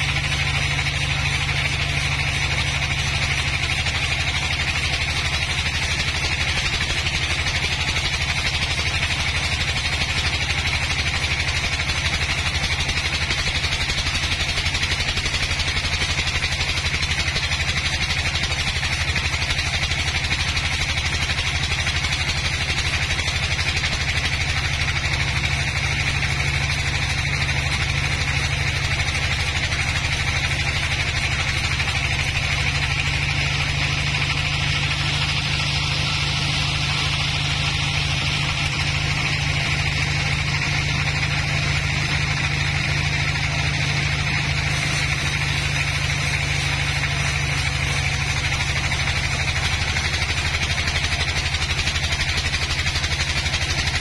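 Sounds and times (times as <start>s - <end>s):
saw blade rushing through log: 0.0s - 54.0s
sawmill machine drone: 0.0s - 54.0s.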